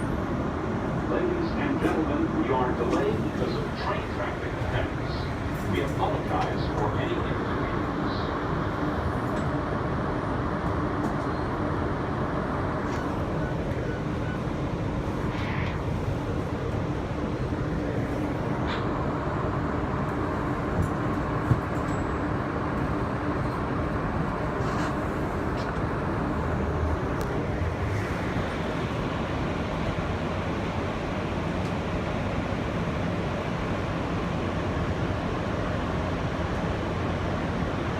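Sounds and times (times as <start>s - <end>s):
faint constant hum: 0.0s - 37.9s
subway car rumble and hiss: 0.0s - 37.9s.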